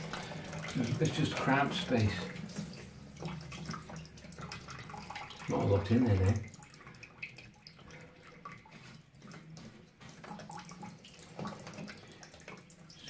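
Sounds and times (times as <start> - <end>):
water trickling from radiator: 0.0 - 13.0.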